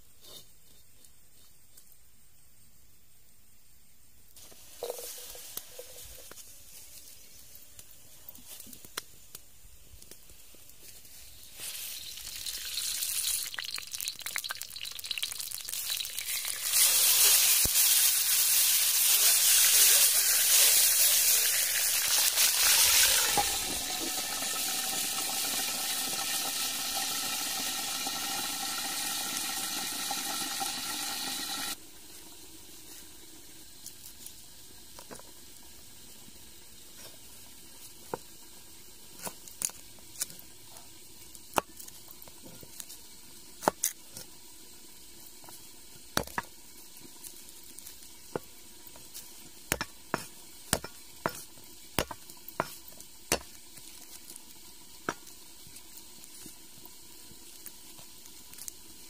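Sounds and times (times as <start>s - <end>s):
sizzling in a wok: 4.4s - 59.0s.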